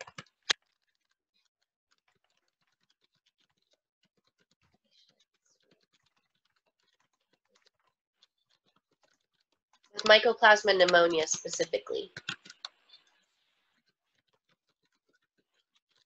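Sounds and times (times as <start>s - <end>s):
faint rapid keyboard typing: 0.0s - 16.0s.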